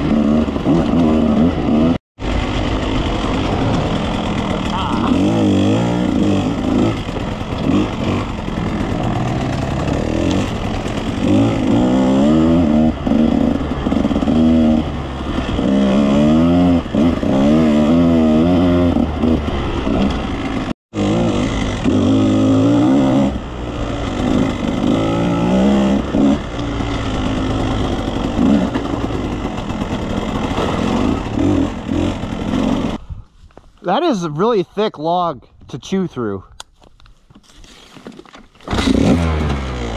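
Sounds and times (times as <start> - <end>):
dirt bike engine revving: 0.0 - 33.0, 38.6 - 39.9.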